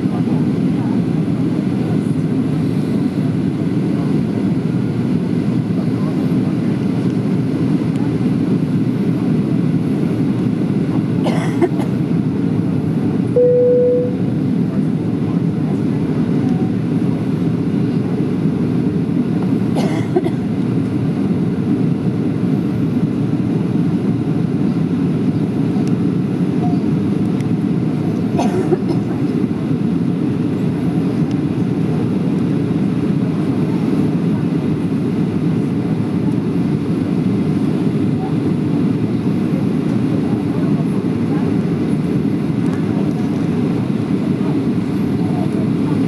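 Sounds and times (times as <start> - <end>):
airplane cabin drone: 0.0 - 46.0.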